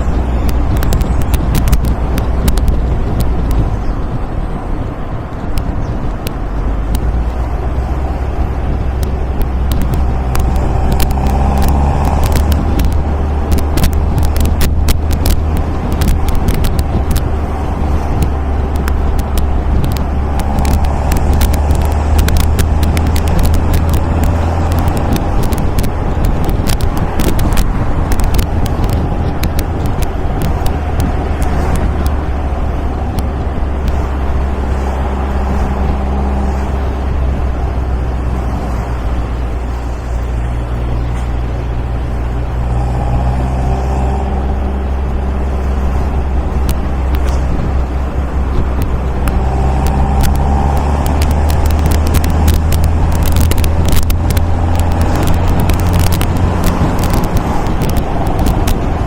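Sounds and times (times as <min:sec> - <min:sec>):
sharp exhaust crackles: 0:00.0 - 0:04.4, 0:05.4 - 0:59.0
car engine droning while driving: 0:00.0 - 0:59.0.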